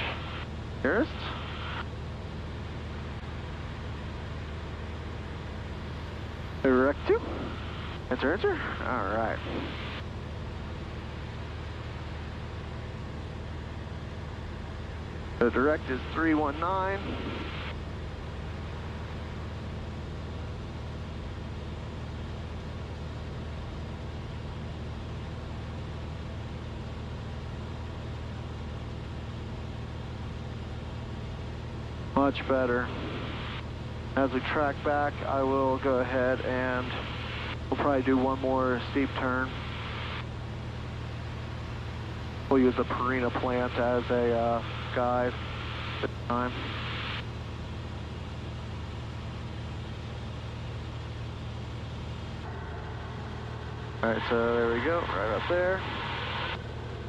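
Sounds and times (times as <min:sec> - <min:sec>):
aircraft engine droning: 0:00.0 - 0:57.0.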